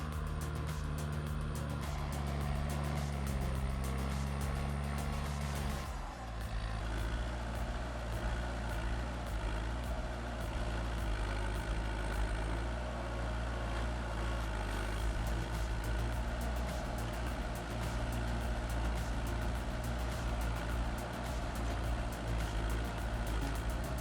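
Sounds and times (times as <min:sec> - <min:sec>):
heavy vehicle engine running: 0:00.0 - 0:24.0.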